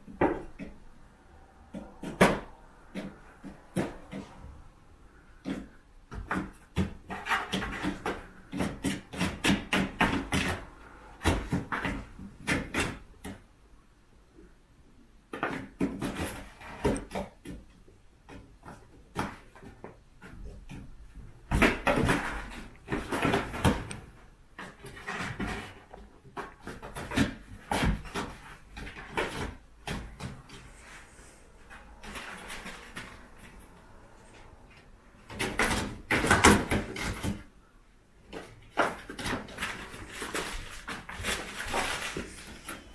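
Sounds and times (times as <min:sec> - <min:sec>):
kittens knocking and scratching a box: 0:00.0 - 0:01.0, 0:01.6 - 0:04.6, 0:05.3 - 0:13.5, 0:15.3 - 0:30.8, 0:31.6 - 0:37.6, 0:38.2 - 0:42.9.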